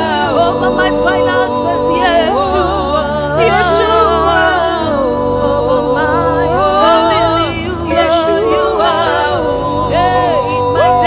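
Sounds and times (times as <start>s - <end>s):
held chords: 0.0s - 11.0s
low bass: 0.0s - 11.0s.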